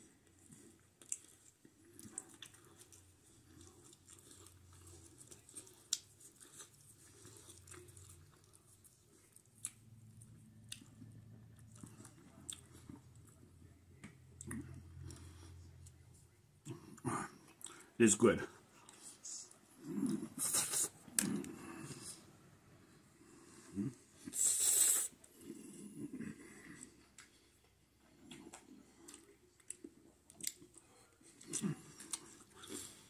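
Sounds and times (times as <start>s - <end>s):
person chewing food: 0.0s - 18.0s, 18.6s - 33.0s.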